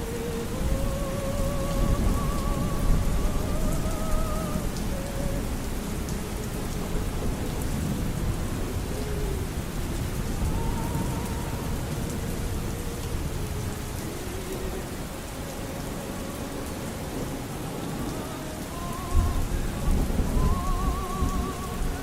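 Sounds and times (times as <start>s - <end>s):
operatic singing voice: 0.0s - 22.0s
steady rain: 0.0s - 22.0s
thunder rumble: 0.0s - 22.0s.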